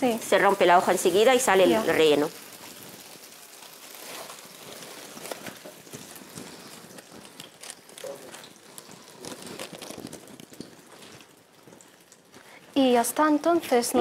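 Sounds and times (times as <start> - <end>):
hot oil crackling and spitting: 0.0 - 14.0.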